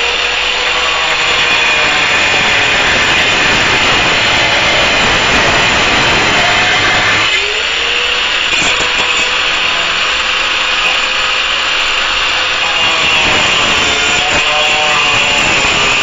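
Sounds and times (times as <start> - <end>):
angle grinder cutting metal: 0.0 - 16.0.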